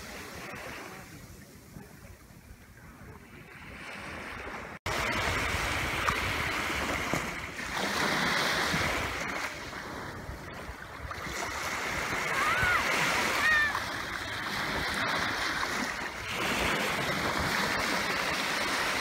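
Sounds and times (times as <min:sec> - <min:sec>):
waves washing onto beach: 0:00.0 - 0:19.0.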